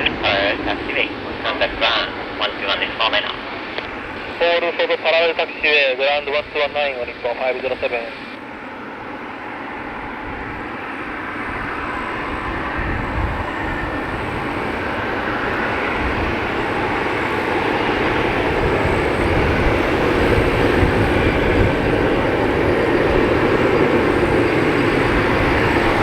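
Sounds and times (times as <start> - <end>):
jet engines taxiing: 0.0 - 26.0.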